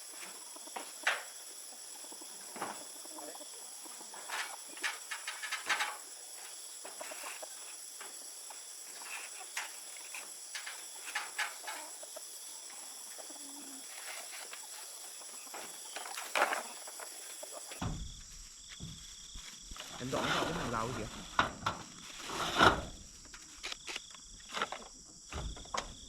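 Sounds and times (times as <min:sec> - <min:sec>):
high-pitched background hiss: 0:00.0 - 0:24.5.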